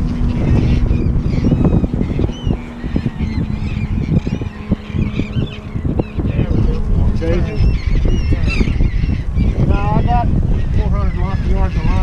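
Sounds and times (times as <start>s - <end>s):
flock of birds calling: 0.0s - 12.0s
loud low rumble: 0.0s - 12.0s.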